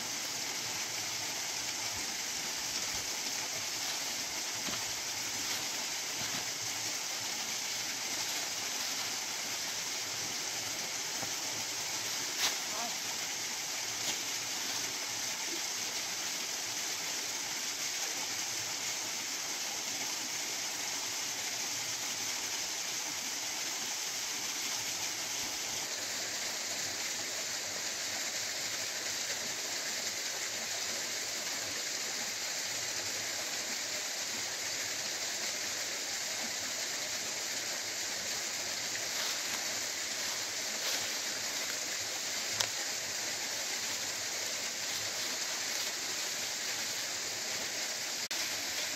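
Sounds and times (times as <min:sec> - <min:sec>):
waterfall pouring over rocks: 0:00.0 - 0:48.9.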